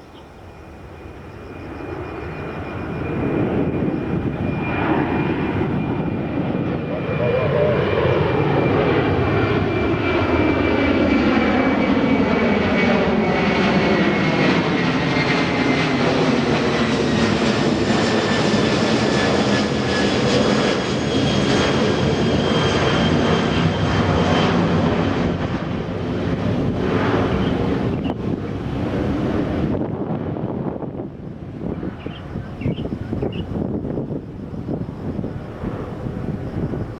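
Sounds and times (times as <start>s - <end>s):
jet airliner engines passing: 0.0s - 36.9s.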